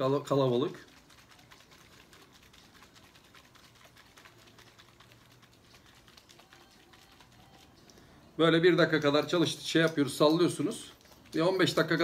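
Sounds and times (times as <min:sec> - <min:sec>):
plastic bottle being shaken: 0:00.0 - 0:08.0, 0:08.6 - 0:12.0.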